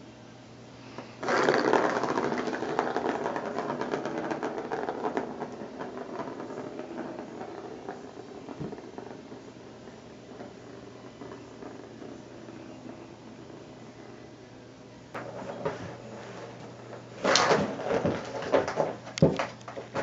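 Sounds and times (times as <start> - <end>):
ball rattling around plastic track: 1.2 - 13.6, 15.2 - 20.0.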